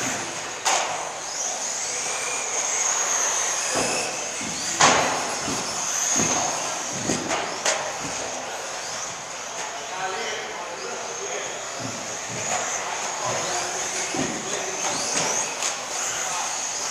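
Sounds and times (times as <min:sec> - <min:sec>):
electric motor whine: 0:00.0 - 0:16.9
rc cars on track: 0:00.0 - 0:16.9.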